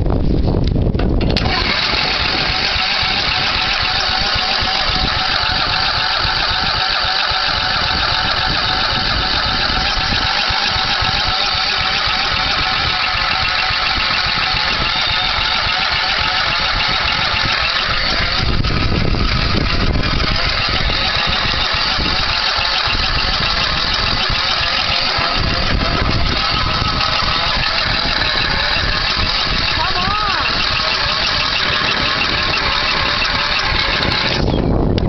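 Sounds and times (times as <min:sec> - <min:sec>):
mower engine cranking: 0:01.0 - 0:34.7.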